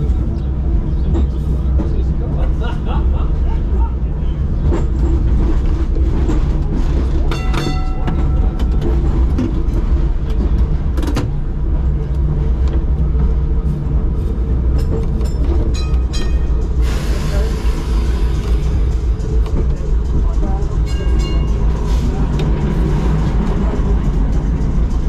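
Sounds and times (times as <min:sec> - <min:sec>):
tram rumbling along track: 0:00.0 - 0:25.0.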